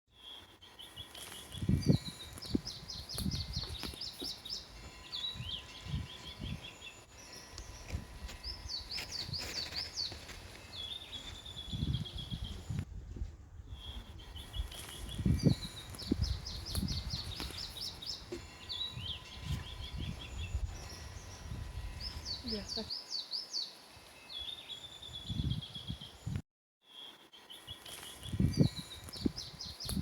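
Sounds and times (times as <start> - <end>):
songbirds chirping: 0.2 - 12.8, 13.6 - 30.0.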